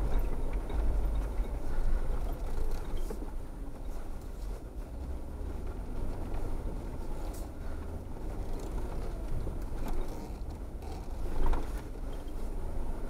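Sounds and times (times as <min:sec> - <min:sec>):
low engine and road rumble: 0:00.0 - 0:13.0.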